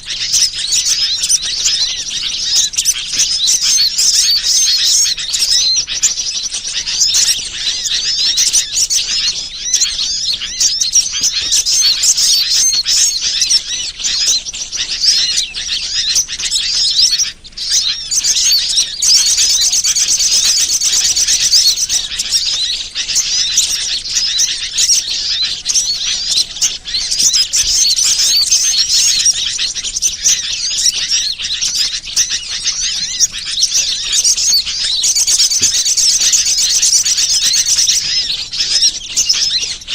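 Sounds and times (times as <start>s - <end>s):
chorus of small birds chirping: 0.0s - 39.9s
fast even bird trill: 0.0s - 39.9s.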